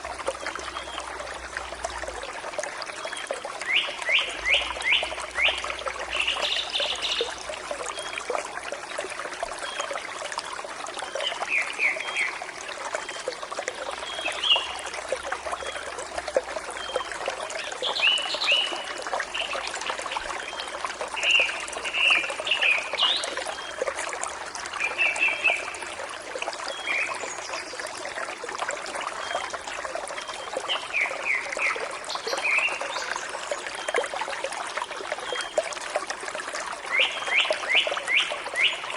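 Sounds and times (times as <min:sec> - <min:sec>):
stream trickling and splashing: 0:00.0 - 0:38.9.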